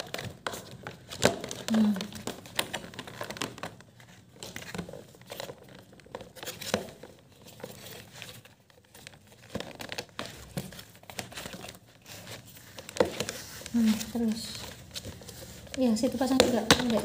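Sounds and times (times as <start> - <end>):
plastic parts clicking and knocking: 0.0 - 17.0.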